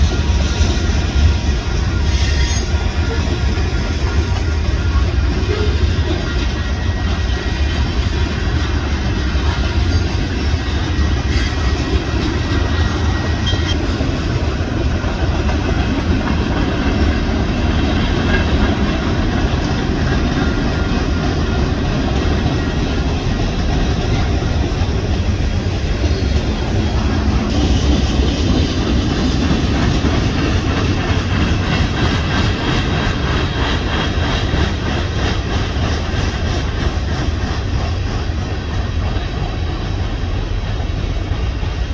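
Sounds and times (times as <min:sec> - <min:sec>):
train wheels rolling on rails: 0:00.0 - 0:41.9.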